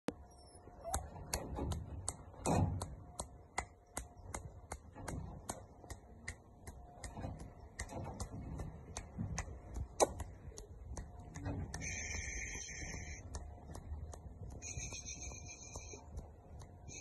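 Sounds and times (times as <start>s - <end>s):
steady ticking clicks: 1.3s - 17.0s.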